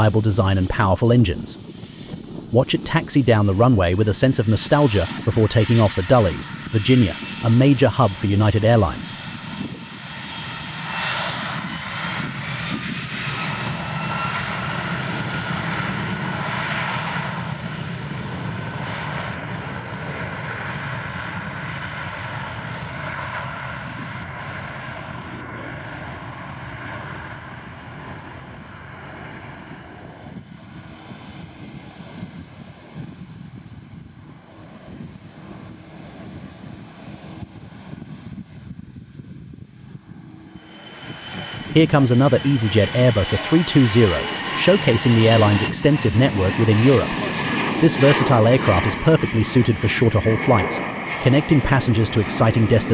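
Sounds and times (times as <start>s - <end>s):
jet engines at takeoff: 0.0s - 52.9s.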